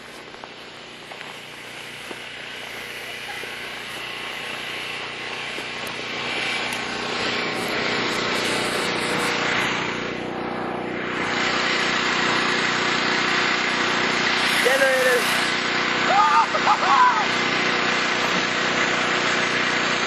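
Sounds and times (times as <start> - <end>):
hiss: 0.0 - 10.1, 11.1 - 20.0
small engine running: 0.0 - 20.0.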